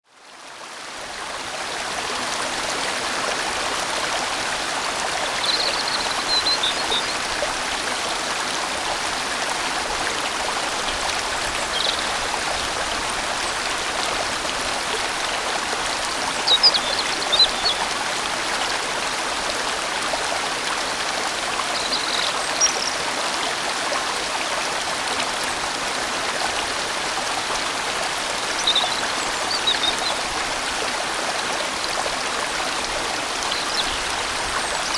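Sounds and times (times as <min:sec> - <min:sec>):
stream water rushing: 0:00.2 - 0:34.9.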